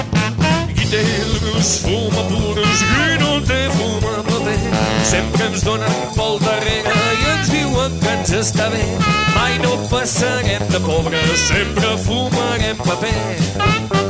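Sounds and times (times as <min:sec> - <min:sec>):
upbeat band song with vocals: 0:00.0 - 0:14.0.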